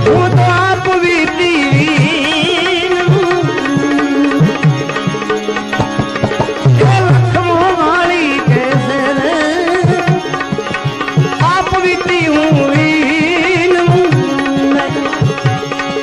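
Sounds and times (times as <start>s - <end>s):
tabla strokes: 0.0s - 16.0s.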